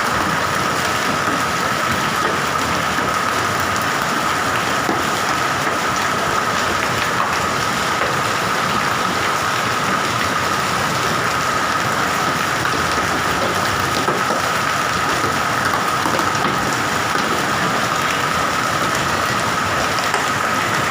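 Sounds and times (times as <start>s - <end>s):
hail and rain falling: 0.0s - 20.9s.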